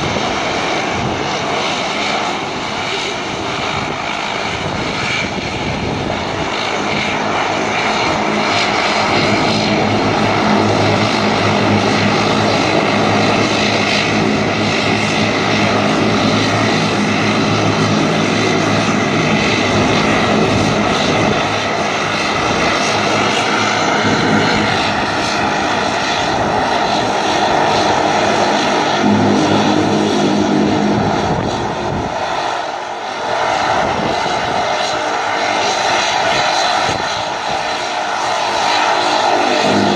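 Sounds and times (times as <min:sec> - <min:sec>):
turboprop aircraft taxiing: 0:00.0 - 0:39.9.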